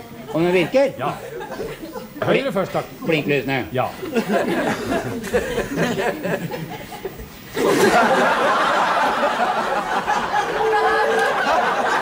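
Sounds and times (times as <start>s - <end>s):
studio audience laughing: 0.2s - 2.3s, 3.9s - 12.0s.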